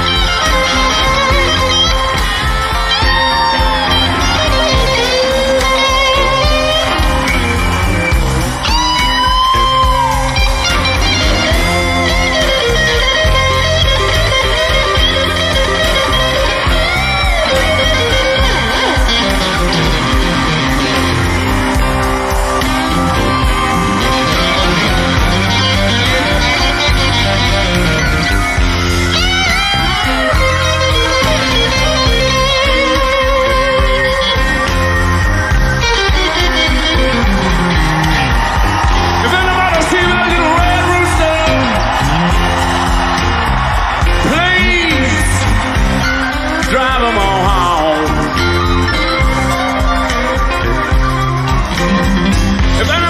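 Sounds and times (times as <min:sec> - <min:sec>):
electric guitar bending lead notes: 0:00.0 - 0:53.0
live blues band playing: 0:00.0 - 0:53.0.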